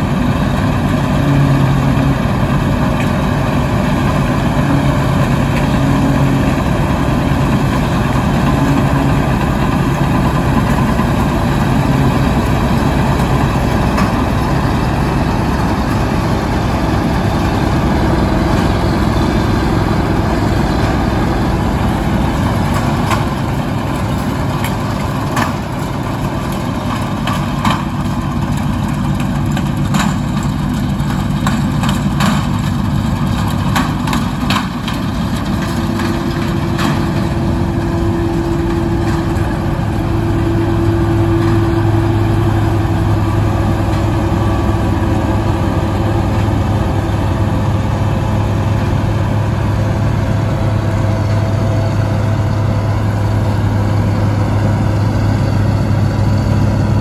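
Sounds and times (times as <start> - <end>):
combine harvester engine running: 0.0 - 57.0.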